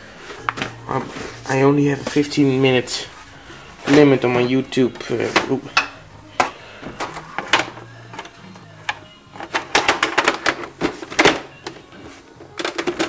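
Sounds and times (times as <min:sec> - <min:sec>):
objects knocking and clattering: 0:00.3 - 0:02.3, 0:03.2 - 0:13.0.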